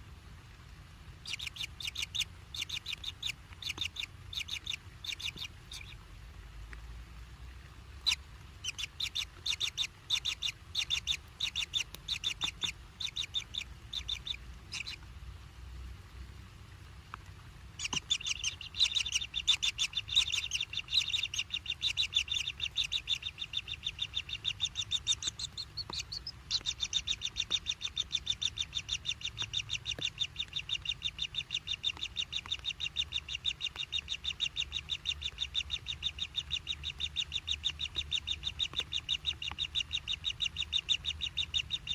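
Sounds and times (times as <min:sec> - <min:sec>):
nestling birds chirping: 0:01.2 - 0:06.0, 0:08.0 - 0:15.0, 0:17.7 - 0:41.9.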